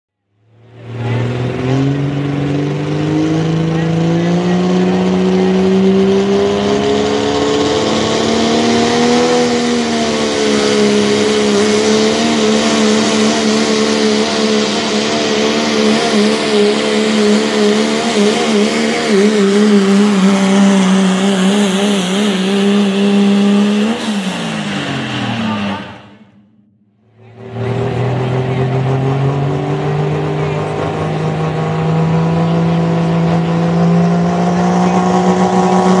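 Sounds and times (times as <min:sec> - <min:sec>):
diesel truck engine at full throttle: 0:00.2 - 0:36.0.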